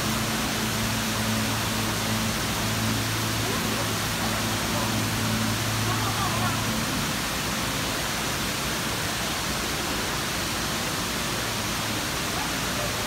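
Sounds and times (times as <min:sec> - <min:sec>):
indoor waterfall rushing: 0:00.0 - 0:13.0.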